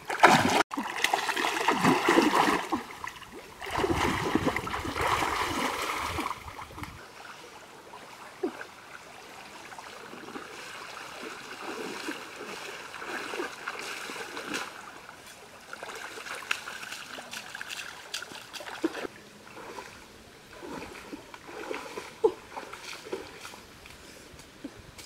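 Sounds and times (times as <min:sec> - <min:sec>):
splashing steps wading in water: 0:00.0 - 0:25.0
stream rushing: 0:00.0 - 0:25.0.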